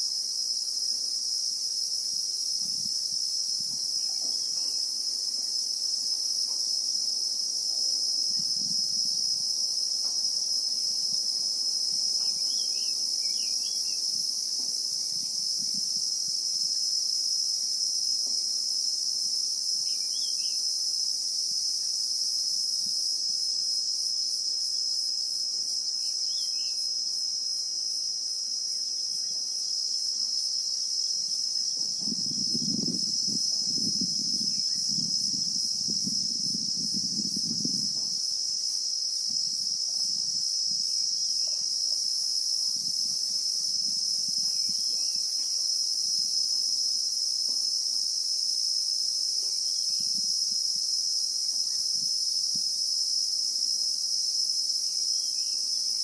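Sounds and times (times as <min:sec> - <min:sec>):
cicadas shrilling: 0:00.0 - 0:56.0.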